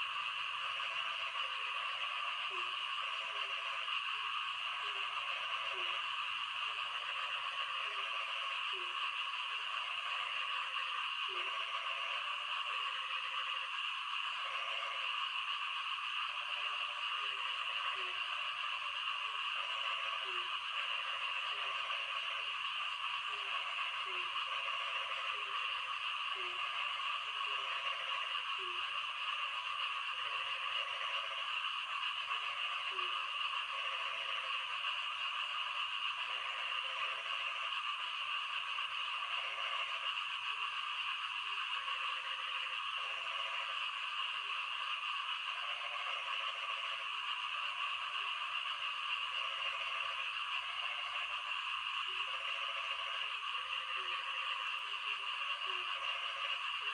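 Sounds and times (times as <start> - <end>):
frogs croaking: 0.0 - 56.9.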